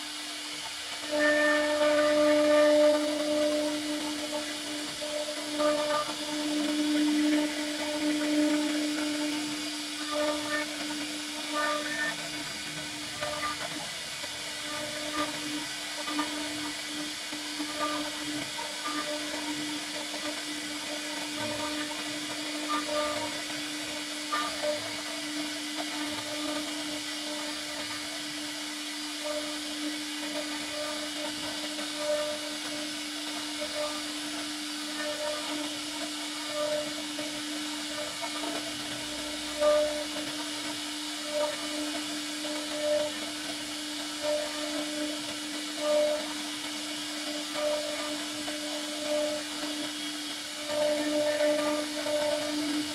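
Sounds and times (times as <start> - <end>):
router spindle humming: 0.0 - 52.9.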